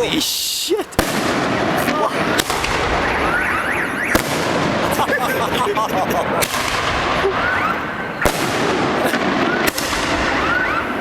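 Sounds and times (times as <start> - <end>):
firework crackle: 0.0 - 11.0
firework bangs: 0.9 - 11.0
car alarms whooping: 1.6 - 11.0.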